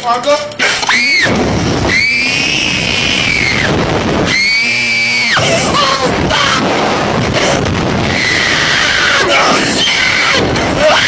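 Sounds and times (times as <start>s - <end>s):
riders screaming: 0.6s - 11.0s
wind rush on microphone: 1.2s - 11.0s.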